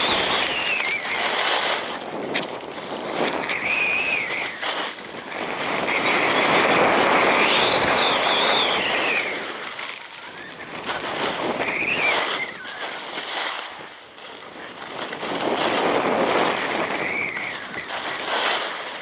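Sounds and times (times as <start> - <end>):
high whine from ski edges: 0.0 - 19.0
skis scraping on snow: 0.0 - 19.0.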